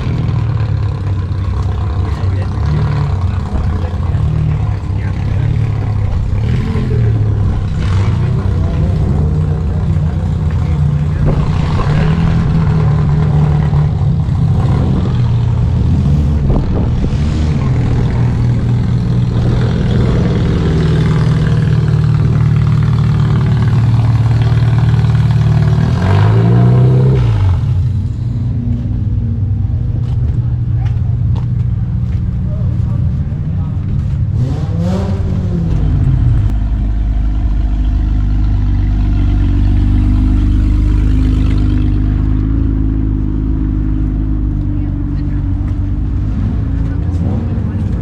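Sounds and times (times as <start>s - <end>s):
car engine running and revving: 0.0s - 48.0s.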